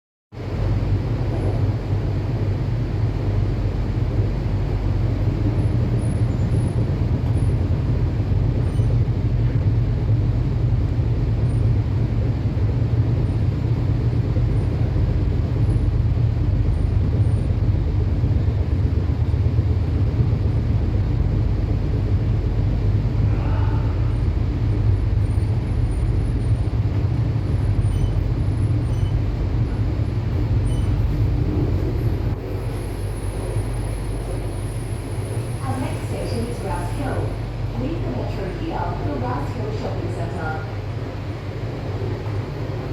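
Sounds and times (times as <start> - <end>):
train running low rumble: 0.3 - 42.9.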